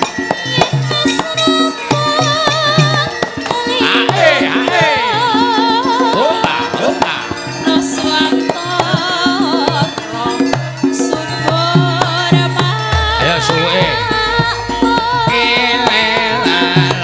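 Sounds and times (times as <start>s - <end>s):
gamelan ensemble playing: 0.0s - 17.0s
hand drum beating: 0.0s - 17.0s
woman singing with vibrato: 0.4s - 17.0s.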